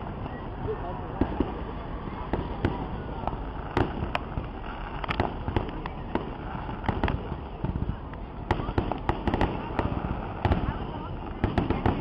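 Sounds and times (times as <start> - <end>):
distant fireworks bangs: 0.0 - 12.0
steady background noise: 0.0 - 12.0.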